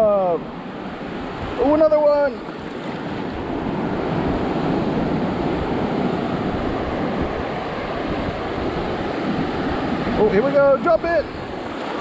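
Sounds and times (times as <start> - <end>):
waves breaking on shore: 0.0 - 12.0.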